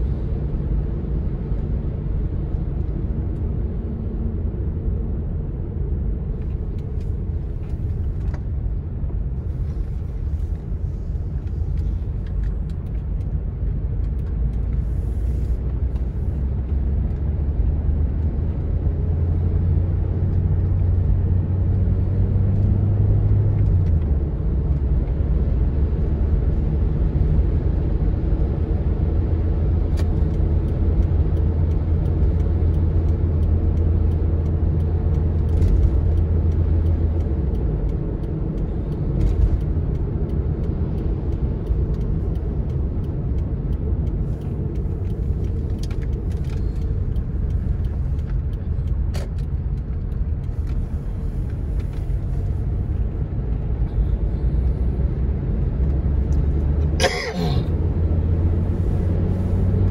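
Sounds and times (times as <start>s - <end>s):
car engine drone: 0.0s - 59.9s
tyre and road noise: 0.0s - 59.9s.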